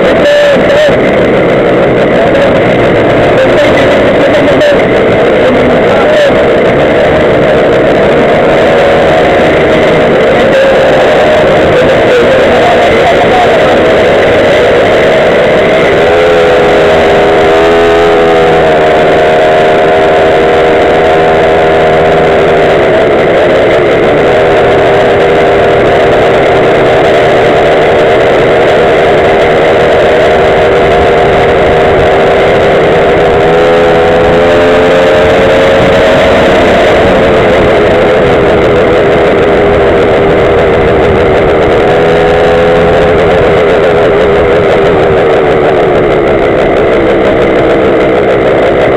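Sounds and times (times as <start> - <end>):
small two-stroke engine revving: 0.0 - 48.9.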